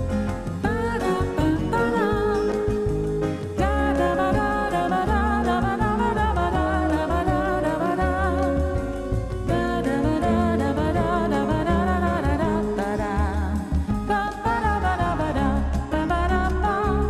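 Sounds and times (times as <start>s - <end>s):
heavy bass line: 0.0s - 17.0s
vibrato singing voice: 0.0s - 17.0s.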